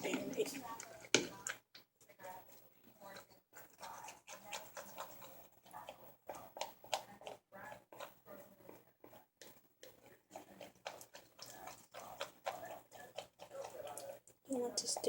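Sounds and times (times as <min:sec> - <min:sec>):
slime being stirred in a bowl: 0:00.0 - 0:15.0.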